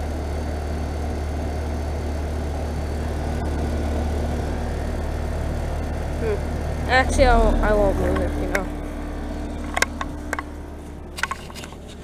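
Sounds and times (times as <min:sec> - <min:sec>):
fan rushing: 0:00.0 - 0:12.0
heat pump low hum: 0:00.0 - 0:12.0.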